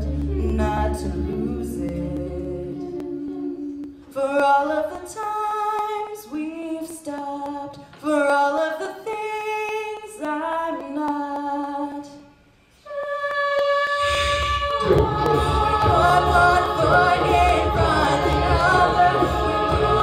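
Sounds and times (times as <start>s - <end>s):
a cappella group singing: 0.0s - 8.9s, 12.8s - 20.0s.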